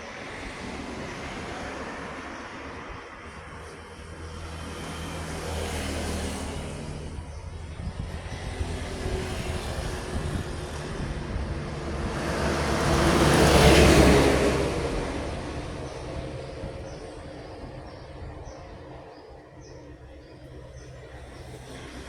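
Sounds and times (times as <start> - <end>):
road traffic engine drone: 0.0 - 22.0
vehicle passing close: 4.2 - 22.0.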